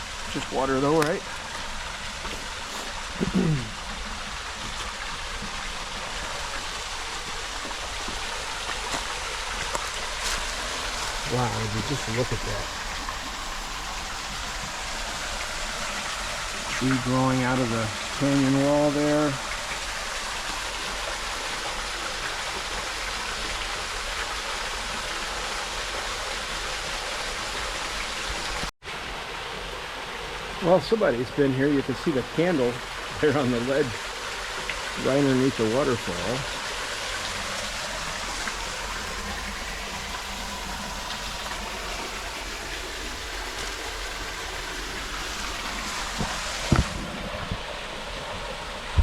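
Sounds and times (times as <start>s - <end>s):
faint water splashes: 0.0s - 49.0s
waterfall and creek rushing: 0.0s - 49.0s.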